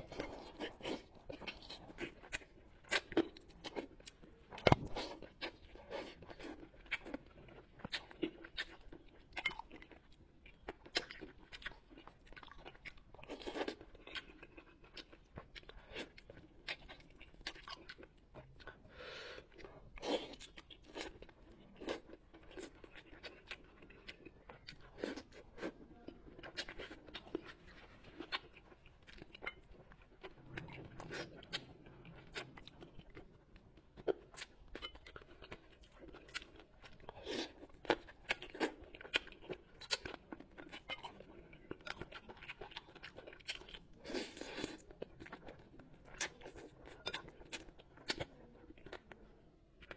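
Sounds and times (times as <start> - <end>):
close chewing and crunching: 0.0 - 49.9.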